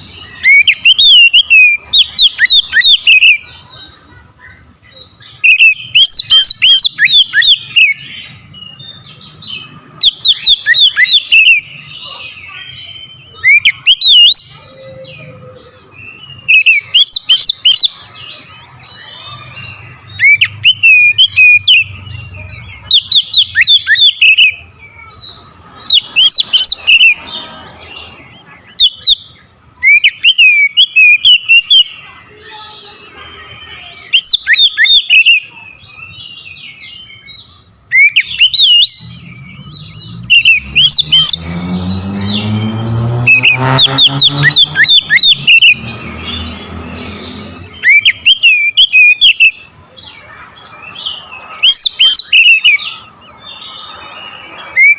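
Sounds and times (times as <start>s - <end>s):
bird singing whistled trills: 0.0s - 4.0s, 4.8s - 54.9s.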